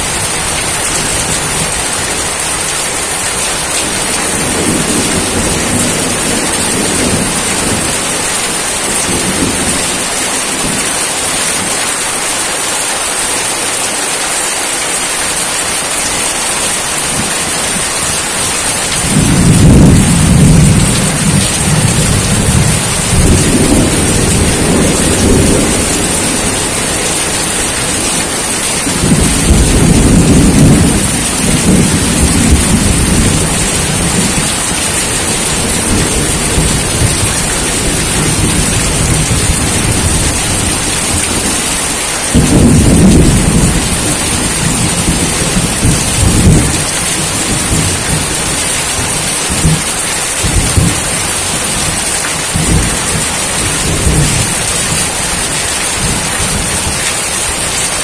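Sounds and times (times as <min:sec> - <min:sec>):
thunder rumbling: 0:00.0 - 0:12.0, 0:17.0 - 0:58.0
heavy rain: 0:00.0 - 0:58.0.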